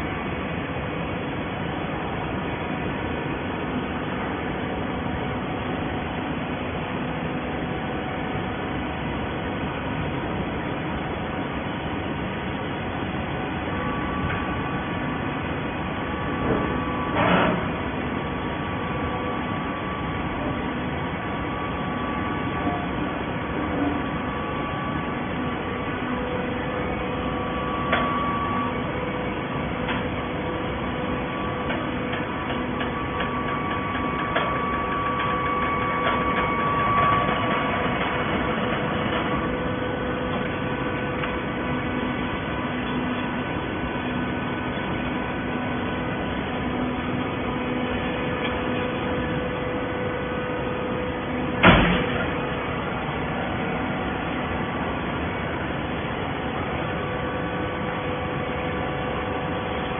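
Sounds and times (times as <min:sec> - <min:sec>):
baler machine drone: 0:00.0 - 0:59.9.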